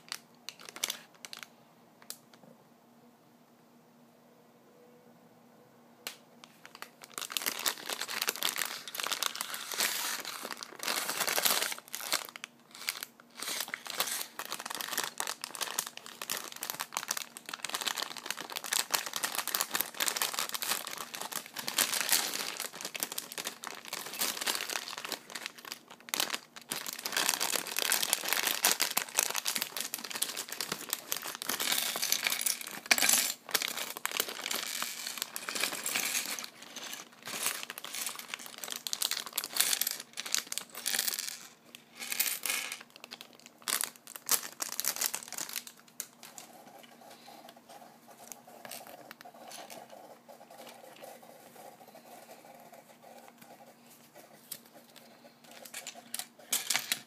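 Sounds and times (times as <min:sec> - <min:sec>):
plastic bag crinkling: 0:00.0 - 0:01.5, 0:06.4 - 0:51.6.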